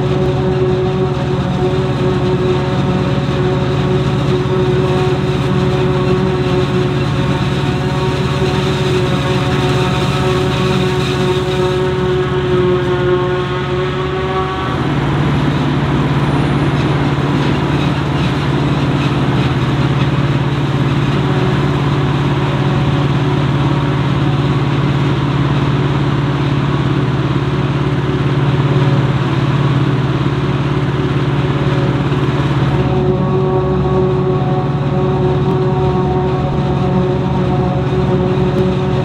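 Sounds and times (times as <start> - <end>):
diesel farm machinery engine drone: 0.0 - 39.0.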